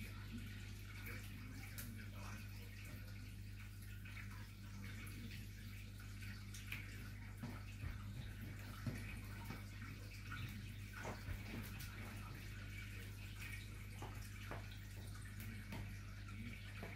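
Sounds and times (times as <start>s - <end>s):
soft ticks and rustles: 0.0s - 16.9s.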